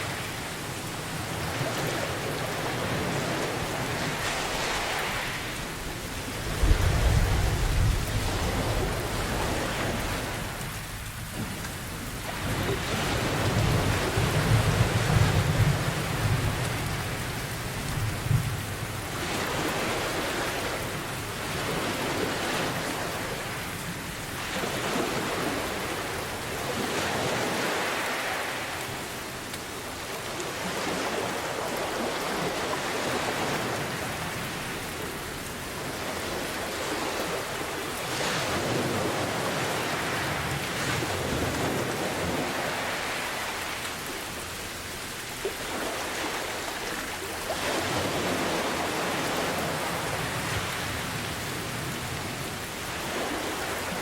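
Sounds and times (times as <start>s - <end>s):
heavy rain: 0.0s - 54.0s
ocean surf: 0.0s - 54.0s.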